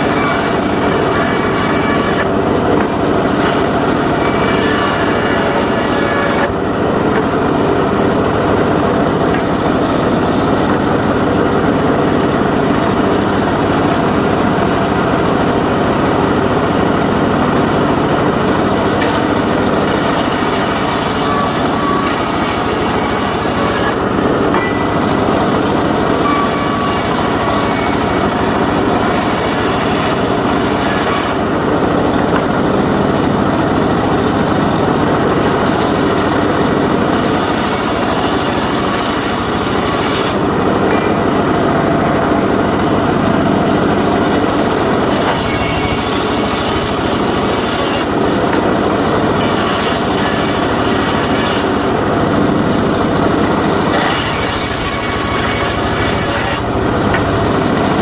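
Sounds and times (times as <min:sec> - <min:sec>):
circular saw cutting timber: 0:00.0 - 0:58.0.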